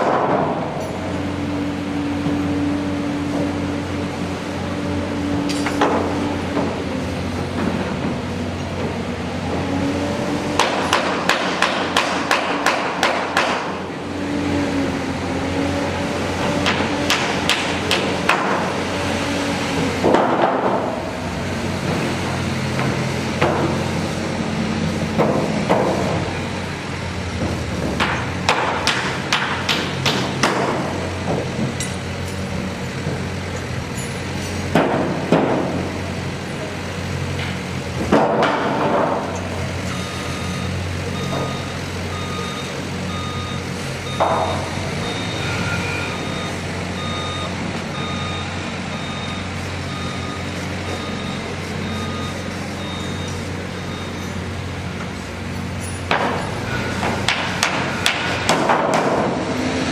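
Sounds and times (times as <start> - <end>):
construction machinery humming: 0.0 - 59.9.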